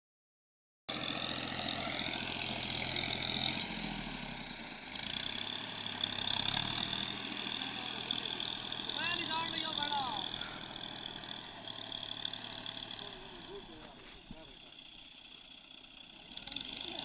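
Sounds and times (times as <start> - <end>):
excavator engine running: 0.9 - 17.0.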